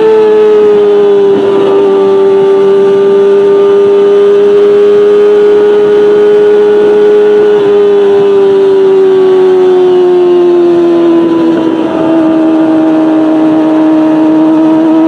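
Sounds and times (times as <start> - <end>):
motorcycle engine screaming at high revs: 0.0 - 15.0.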